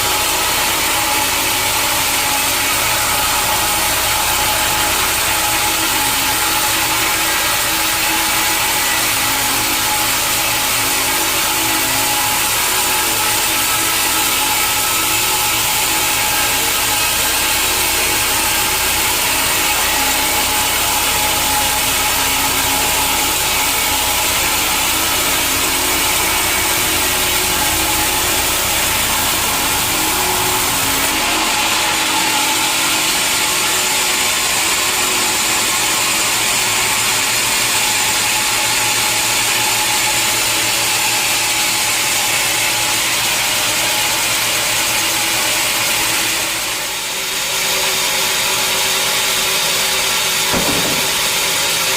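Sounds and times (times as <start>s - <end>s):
saw cutting through wood: 0.0s - 51.9s
sawmill machinery rumbling: 0.0s - 51.9s.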